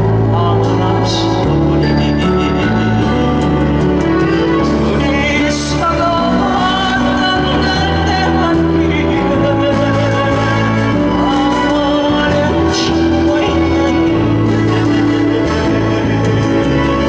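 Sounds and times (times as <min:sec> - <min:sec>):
keyboard backing: 0:00.0 - 0:17.0
sung ballad melody: 0:00.0 - 0:17.0.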